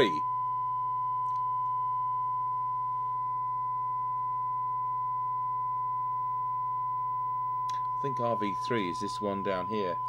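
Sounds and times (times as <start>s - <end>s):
low hum: 0.0s - 10.0s
steady test tone from radio speaker: 0.0s - 10.0s.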